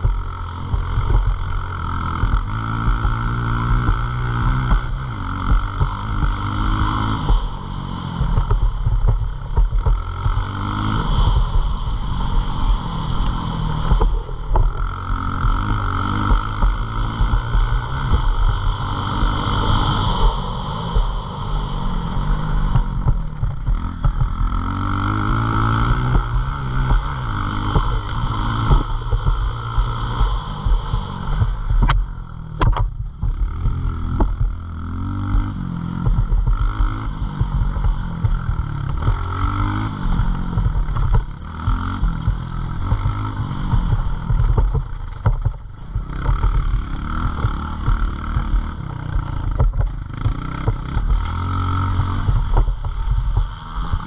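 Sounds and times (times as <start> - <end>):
motorbike engine revving: 0.0 - 54.0
steady rushing noise: 0.0 - 54.0.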